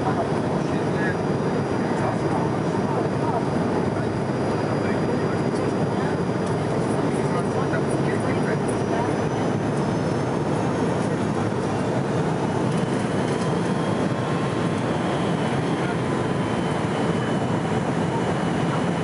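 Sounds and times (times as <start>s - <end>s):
airliner cabin airflow and engine drone: 0.0s - 19.0s.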